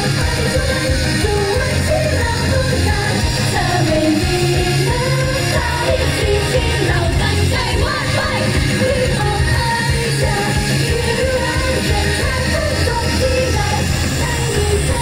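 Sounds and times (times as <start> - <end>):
amplified music with heavy bass: 0.0 - 15.0
women singing pop song: 0.0 - 15.0.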